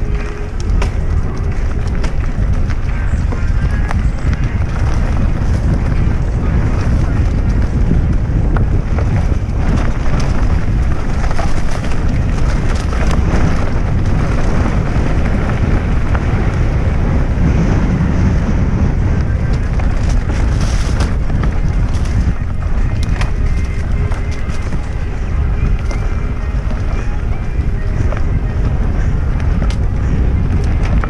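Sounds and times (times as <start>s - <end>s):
bike clicks and rattles: 0.0s - 31.0s
bike tyres rolling over dirt: 0.0s - 31.0s
wind buffeting microphone: 0.0s - 31.0s.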